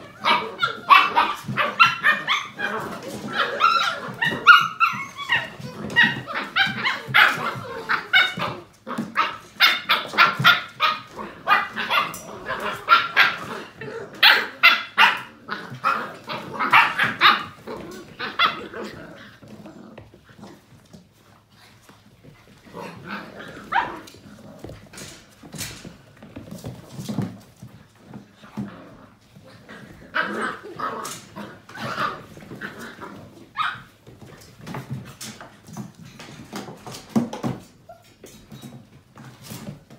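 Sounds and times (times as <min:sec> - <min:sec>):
puppies barking and yipping: 0:00.0 - 0:21.0, 0:22.5 - 0:28.2, 0:28.9 - 0:38.8.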